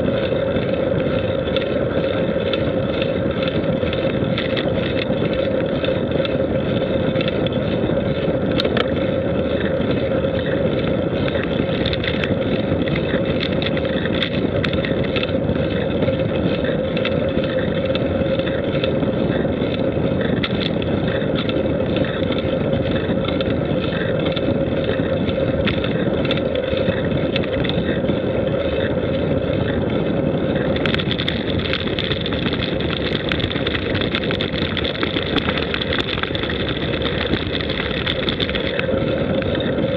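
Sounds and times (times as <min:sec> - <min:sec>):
constant hum: 0:00.0 - 0:39.9
road travel noise: 0:00.0 - 0:39.9
rushing wind: 0:00.0 - 0:39.9.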